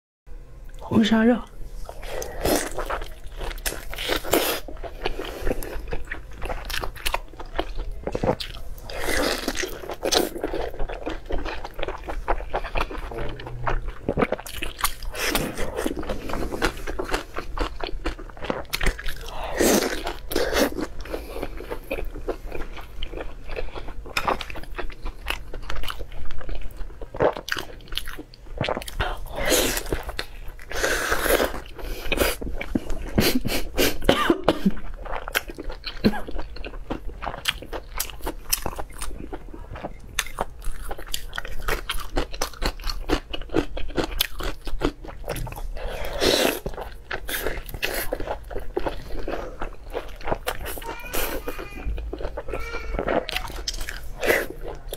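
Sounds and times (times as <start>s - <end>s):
person chewing meat: 1.8s - 54.9s.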